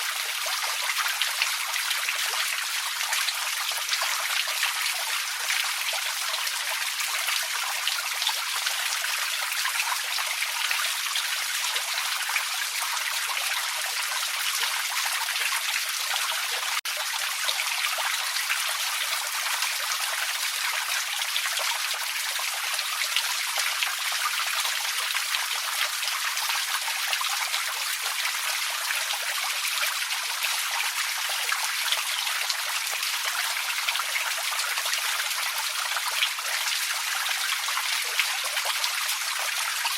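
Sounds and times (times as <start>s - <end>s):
forest creek trickling: 0.0s - 39.9s.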